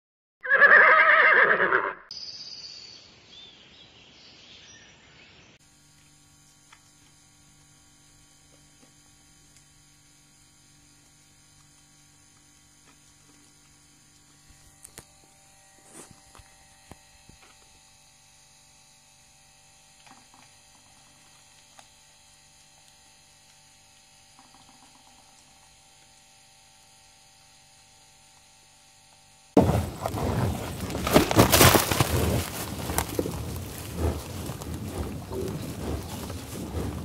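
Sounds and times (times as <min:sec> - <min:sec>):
low electrical hum: 0:02.7 - 0:37.0.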